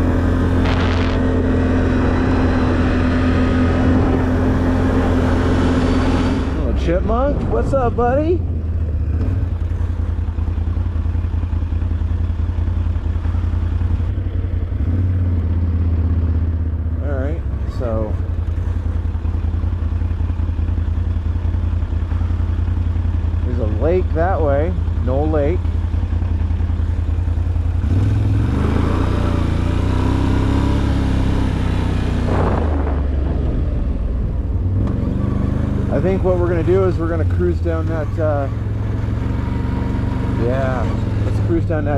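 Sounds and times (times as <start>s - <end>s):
off-road vehicle engine running: 0.0s - 41.9s.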